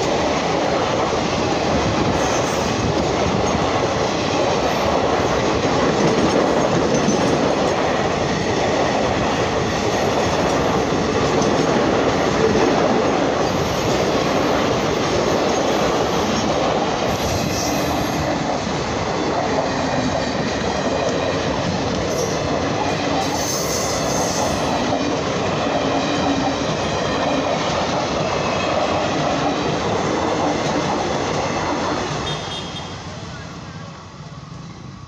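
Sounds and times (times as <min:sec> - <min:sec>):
train wheels rumbling and rattling: 0:00.0 - 0:33.1.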